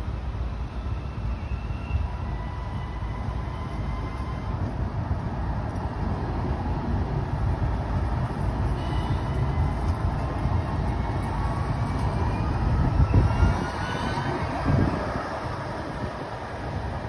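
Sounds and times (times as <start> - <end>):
tram wheels rumbling: 0.0 - 17.0.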